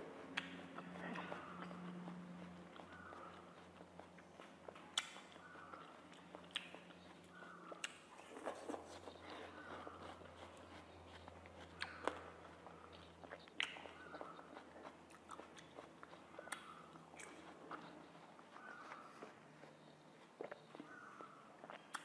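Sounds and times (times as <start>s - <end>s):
faint low hum: 0.0s - 22.0s
person chewing watermelon: 0.0s - 22.0s.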